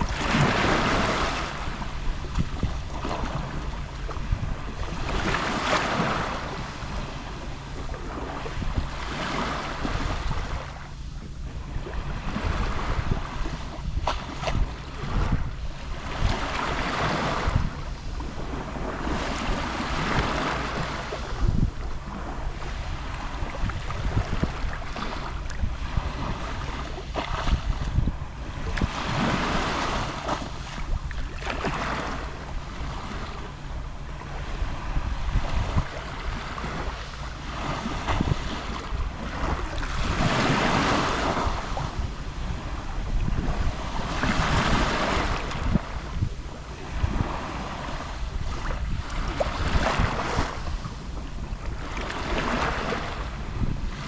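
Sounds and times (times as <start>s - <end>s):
sea waves lapping on shore: 0.0s - 54.0s
wind rumble on microphone: 0.0s - 54.0s.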